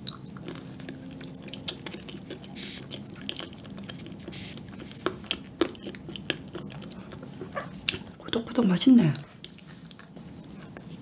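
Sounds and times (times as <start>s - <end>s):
person chewing with wet clicks: 0.0s - 11.0s.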